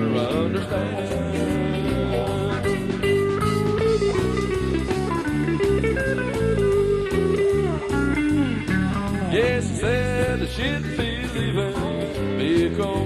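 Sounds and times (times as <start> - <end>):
bass guitar: 0.0 - 13.0
electric guitar lead: 0.0 - 13.0
steady drum beat: 0.0 - 13.0.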